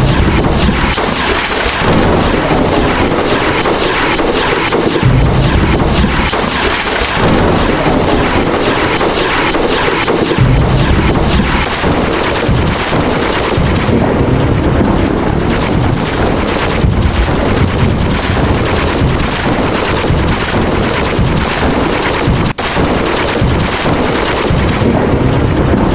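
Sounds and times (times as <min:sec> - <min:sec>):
thunder crackling and rumbling: 0:00.0 - 0:25.9.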